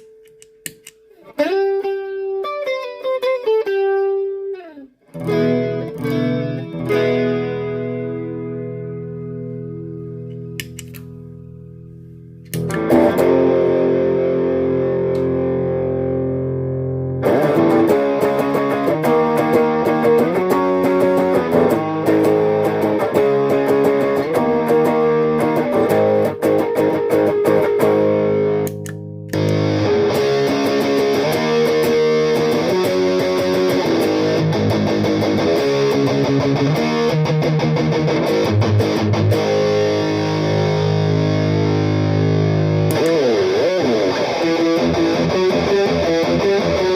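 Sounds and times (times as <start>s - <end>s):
electric guitar chord and riff: 0.0s - 11.8s, 12.5s - 46.9s.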